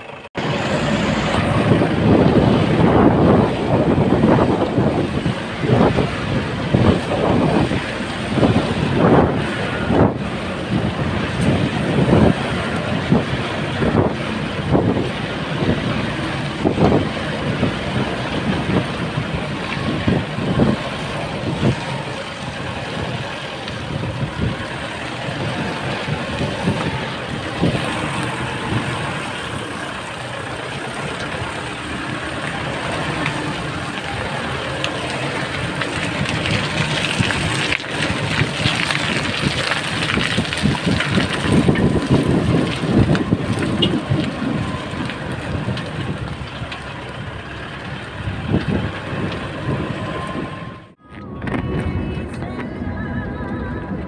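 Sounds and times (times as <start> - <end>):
vehicle jolts and knocks: 0.0 - 29.7, 30.3 - 50.6
pickup engine and tyres rumbling: 0.0 - 54.0.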